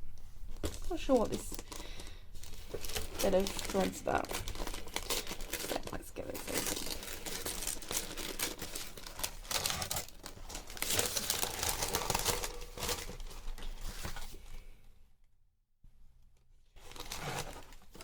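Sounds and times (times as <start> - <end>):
packaging crinkling and tearing: 0.5 - 14.4, 16.8 - 18.0.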